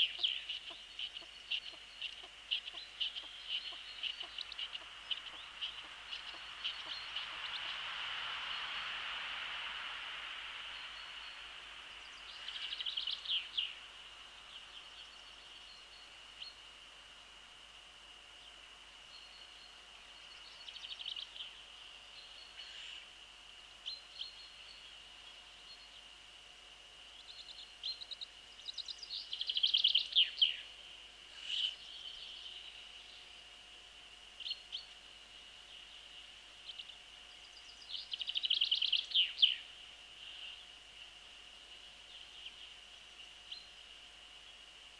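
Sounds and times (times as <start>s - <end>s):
songbird singing: 0.0s - 17.3s, 18.0s - 44.9s
faint high whine: 0.0s - 44.9s.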